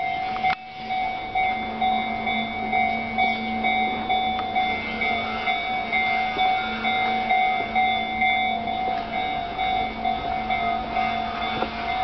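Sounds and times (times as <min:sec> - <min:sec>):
level crossing bell ringing: 0:00.0 - 0:12.0.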